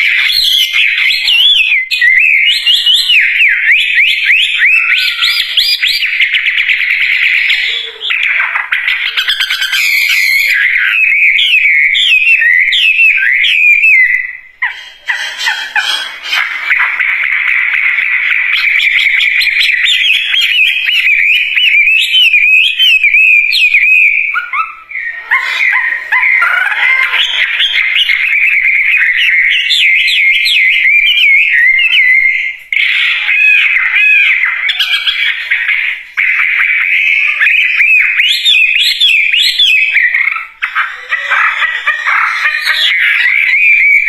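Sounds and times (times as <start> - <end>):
bird singing warbled phrases: 0.0 - 44.0.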